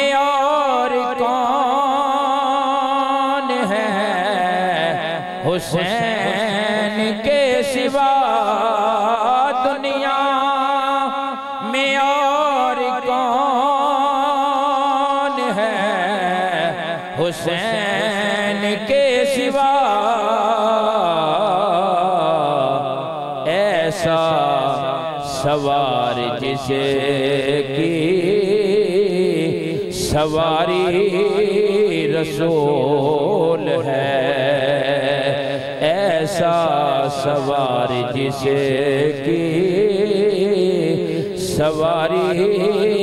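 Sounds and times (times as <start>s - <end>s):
man chanting into a microphone: 0.0s - 43.0s.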